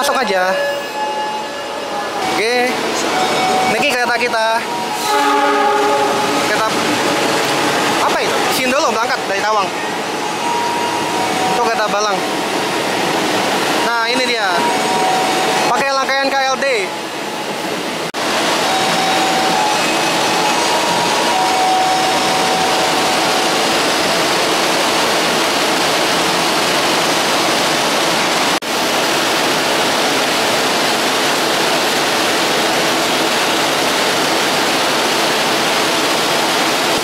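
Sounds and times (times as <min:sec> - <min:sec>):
diesel railcar engines running: 0:00.0 - 0:37.0.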